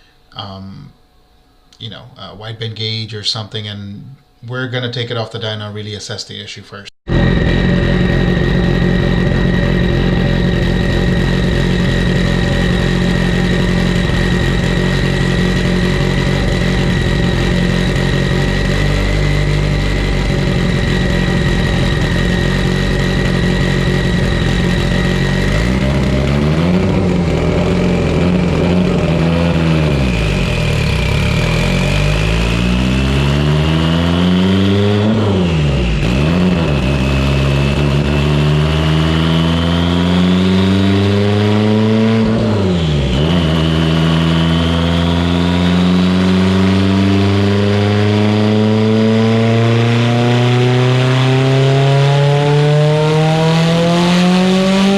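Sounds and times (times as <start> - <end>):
high whine: 0.0 - 54.9
turbocharged car engine on dyno: 7.1 - 54.9.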